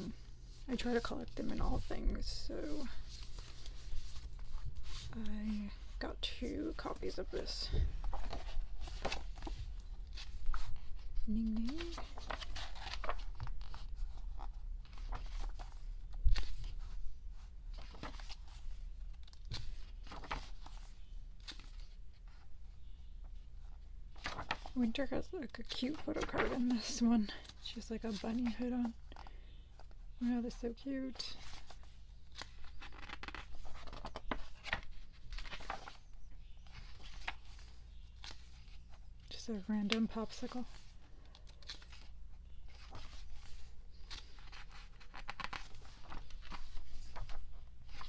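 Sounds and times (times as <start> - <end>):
paper and plastic rustling: 0.0 - 22.4, 24.1 - 29.9, 30.5 - 48.0.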